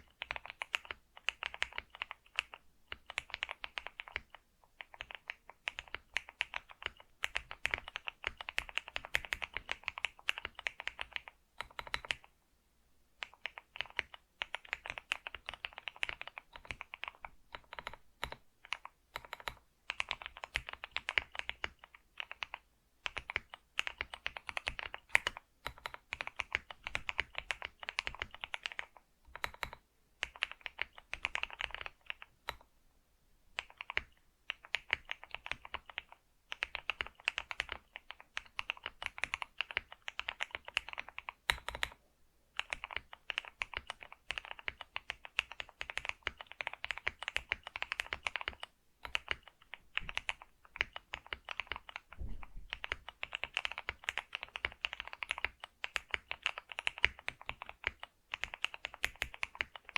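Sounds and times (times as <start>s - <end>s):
keyboard typing clicks: 0.0s - 12.3s, 13.2s - 32.7s, 33.6s - 42.0s, 42.6s - 59.9s.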